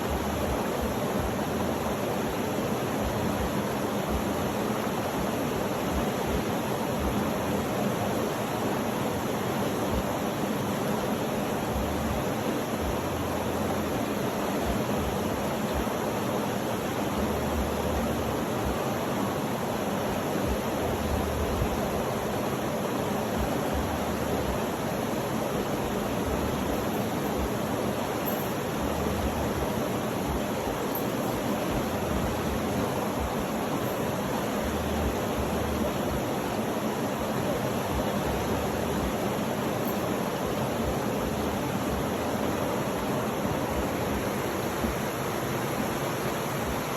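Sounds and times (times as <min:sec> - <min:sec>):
steady rushing noise: 0:00.0 - 0:46.9.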